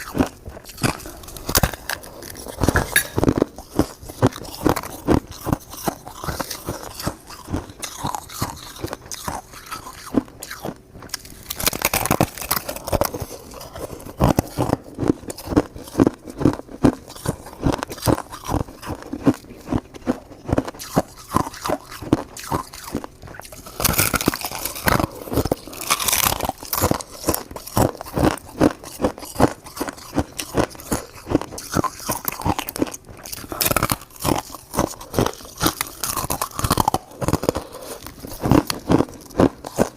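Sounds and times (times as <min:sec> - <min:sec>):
crunching shaved ice: 0:00.0 - 0:39.9.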